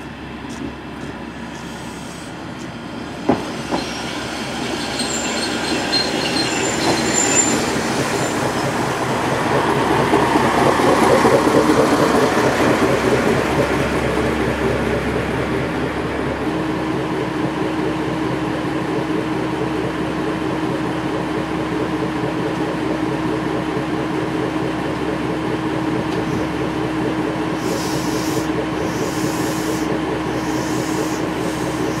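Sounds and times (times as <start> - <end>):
diesel railcar engine idling: 0.0 - 32.0.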